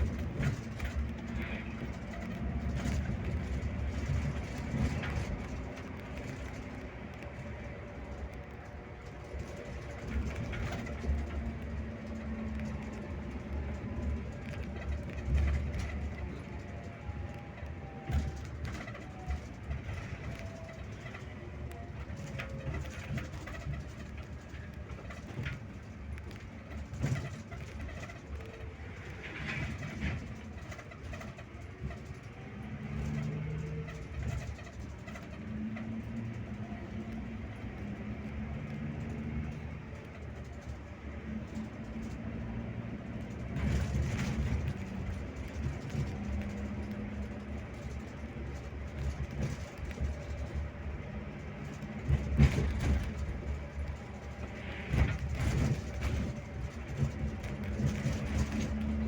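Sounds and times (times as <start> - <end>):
bus diesel engine drone: 0.0 - 59.0
road rumble: 0.0 - 59.0
rattles and knocks: 8.0 - 59.0.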